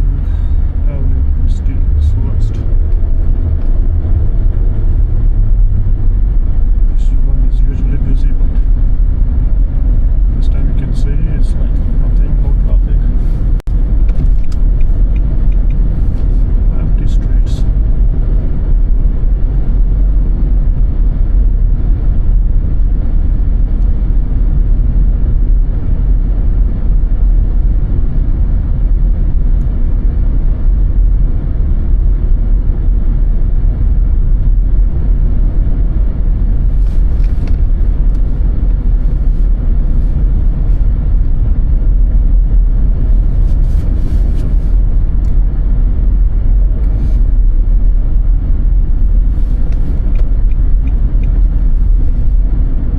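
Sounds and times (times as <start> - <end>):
car tyres and engine rumbling: 0.0 - 52.9.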